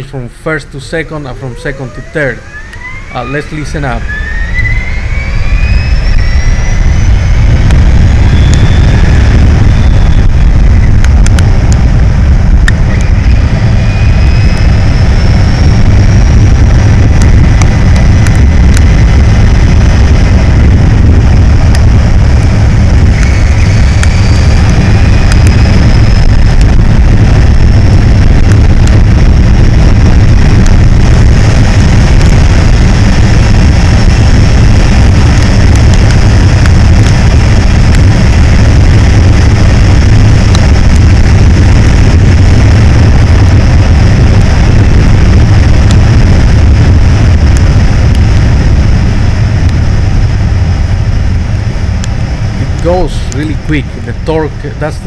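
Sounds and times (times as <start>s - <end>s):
wind rush: 0.0s - 55.0s
electric motorcycle motor whine: 0.8s - 53.1s.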